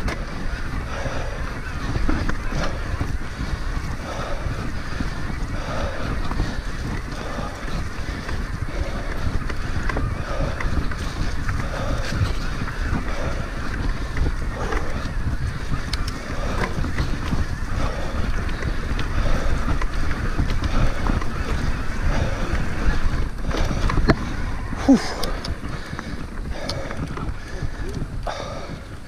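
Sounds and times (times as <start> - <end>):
tyre noise: 0.0 - 29.0
wind buffeting microphone: 0.0 - 29.0.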